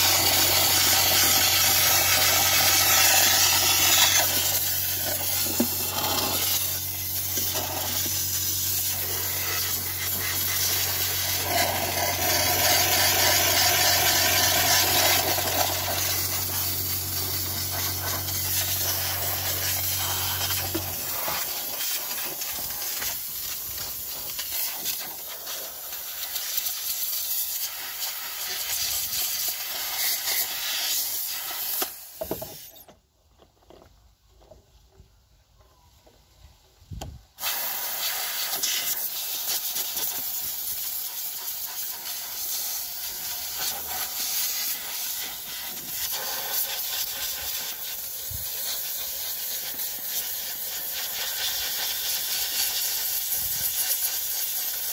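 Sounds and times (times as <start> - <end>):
steam cleaner hissing: 0.0 - 32.8, 37.4 - 54.9.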